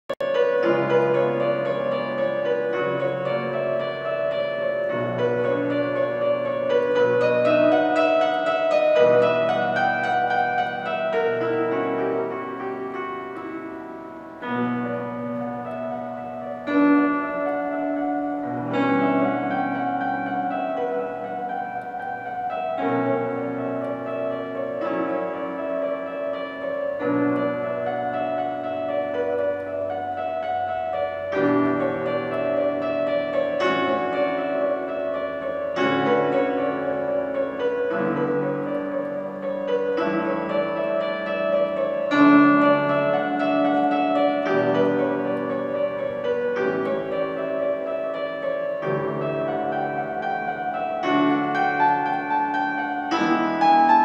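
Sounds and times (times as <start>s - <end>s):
upright piano playing: 0.1s - 54.0s.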